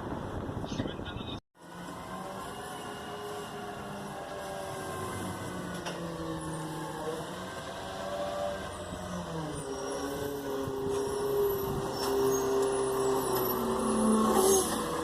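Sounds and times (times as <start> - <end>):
garbage truck engine and machinery: 1.6 - 15.0.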